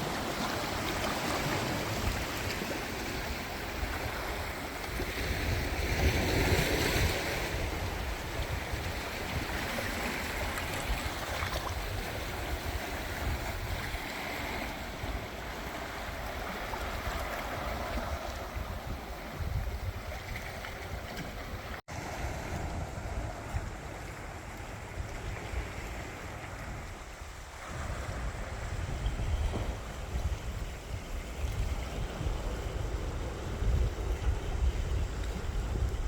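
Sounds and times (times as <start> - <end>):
waves washing onto beach: 0.0 - 36.0
wind rumbling on microphone: 0.0 - 36.0.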